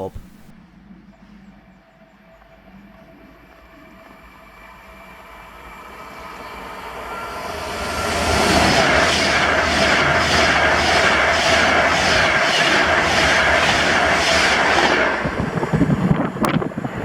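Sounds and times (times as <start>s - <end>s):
electric train passing: 0.7s - 17.0s.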